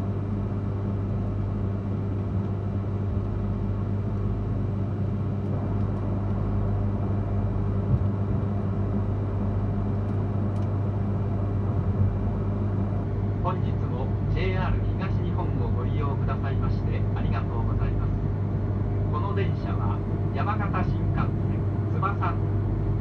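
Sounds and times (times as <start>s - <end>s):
train cabin low hum: 0.0s - 23.0s.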